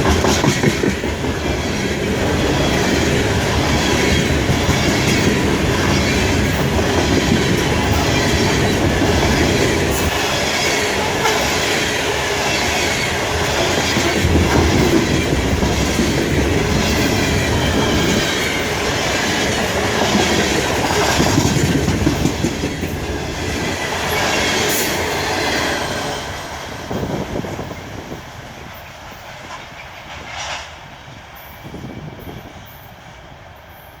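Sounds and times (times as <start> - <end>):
train wheels clattering: 0.0 - 33.2.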